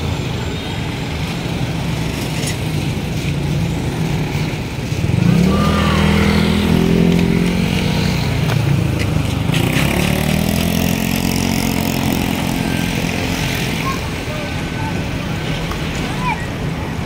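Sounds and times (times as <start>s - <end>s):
motor scooters passing by: 0.0s - 17.0s.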